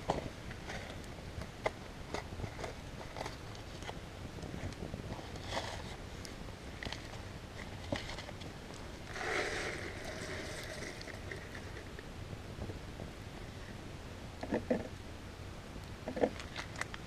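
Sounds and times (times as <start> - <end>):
campfire crackling and popping: 0.0 - 13.2, 15.7 - 17.0
steady tonal hiss: 0.0 - 17.0.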